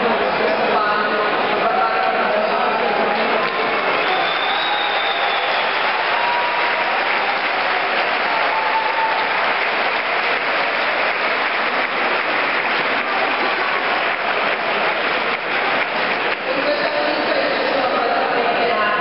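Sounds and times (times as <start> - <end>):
crowd applauding: 0.0 - 18.8.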